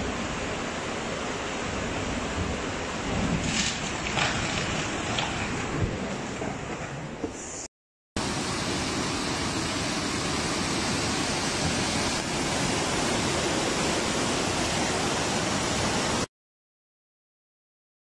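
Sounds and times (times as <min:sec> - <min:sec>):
floodwater rushing: 0:00.0 - 0:06.6, 0:08.2 - 0:16.3.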